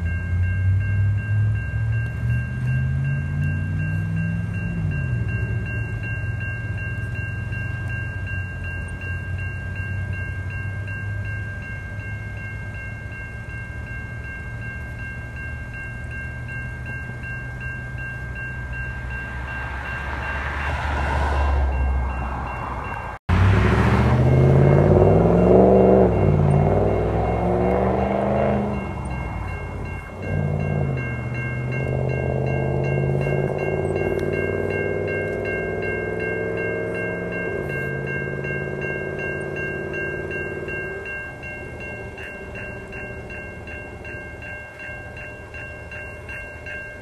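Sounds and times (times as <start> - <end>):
freight train rumbling: 0.0 - 47.0
loud train with rising tones: 0.0 - 47.0
railroad crossing bell ringing: 0.0 - 47.0.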